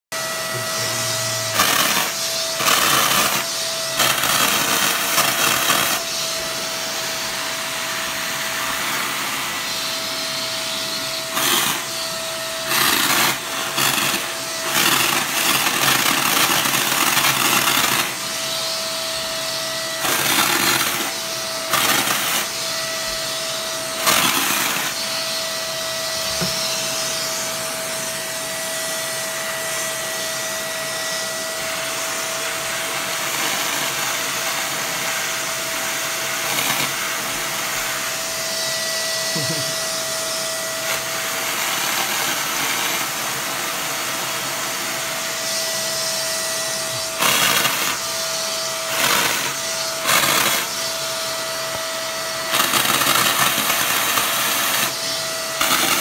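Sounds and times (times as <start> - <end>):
cordless vacuum cleaner whine: 0.1 - 56.0.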